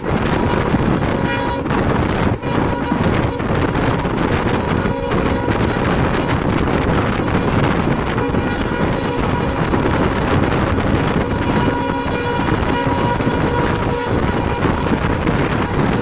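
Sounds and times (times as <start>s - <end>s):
locomotive horn: 0.0s - 16.0s
rushing wind: 0.0s - 16.0s.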